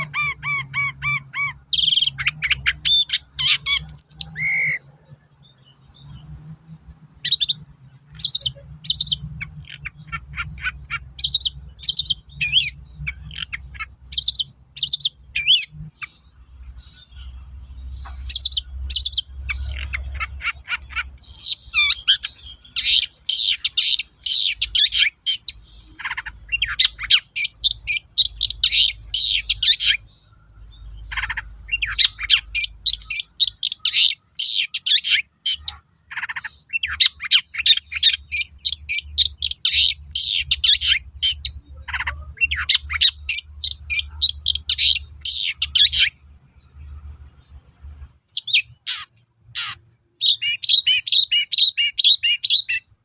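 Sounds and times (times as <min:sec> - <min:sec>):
bird singing chattering song: 0:00.0 - 0:53.0.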